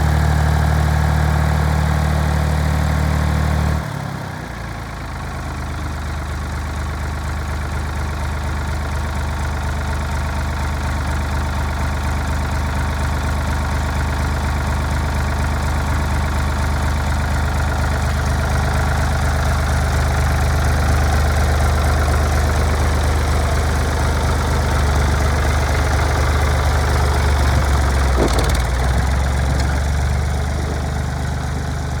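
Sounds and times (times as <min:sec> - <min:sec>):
tractor engine idling: 0:04.8 - 0:32.0.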